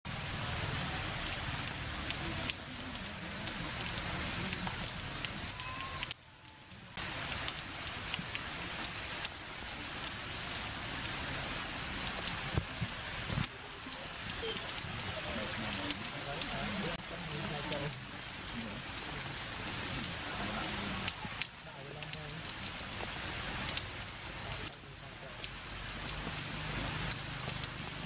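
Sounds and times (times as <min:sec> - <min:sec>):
heavy rain on leaves and stone: 0:00.1 - 0:28.0.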